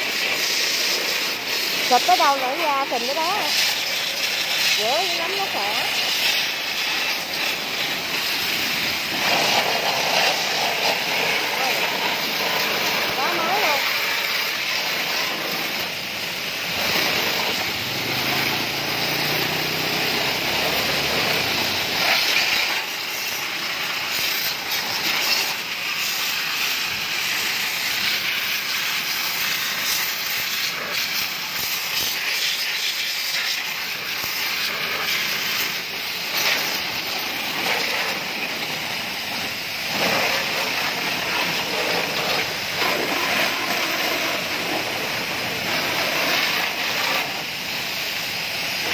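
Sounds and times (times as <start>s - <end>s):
hose water spraying: 0.0s - 48.9s.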